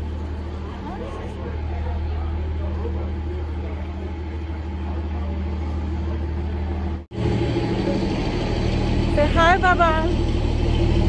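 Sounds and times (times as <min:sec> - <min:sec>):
train engine idling hum: 0:00.0 - 0:11.0.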